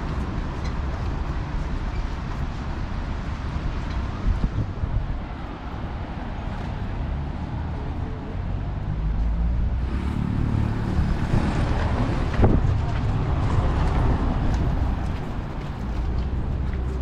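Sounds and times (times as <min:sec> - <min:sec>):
traffic: 0:00.0 - 0:17.0
wind rumbling on microphone: 0:00.0 - 0:17.0.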